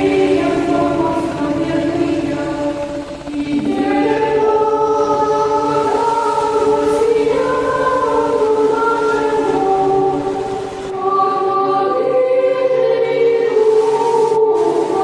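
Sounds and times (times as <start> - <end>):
choir singing slow chords: 0.0 - 15.0.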